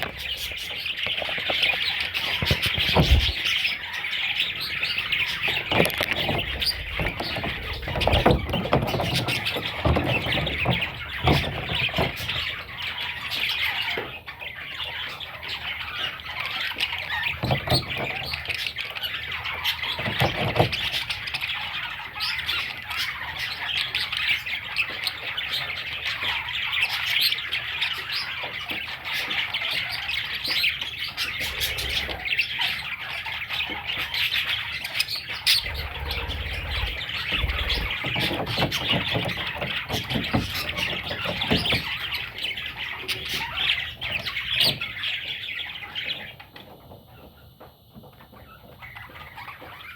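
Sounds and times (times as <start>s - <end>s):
budgerigar chicks chirping: 0.0s - 47.6s, 48.2s - 49.9s.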